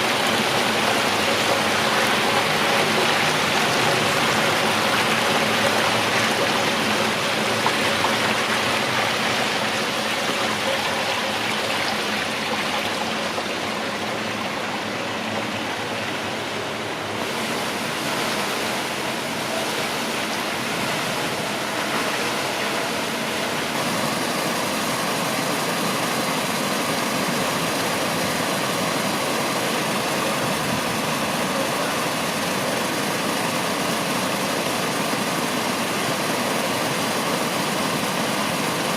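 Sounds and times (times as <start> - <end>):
fountain water splashing: 0.0 - 38.9.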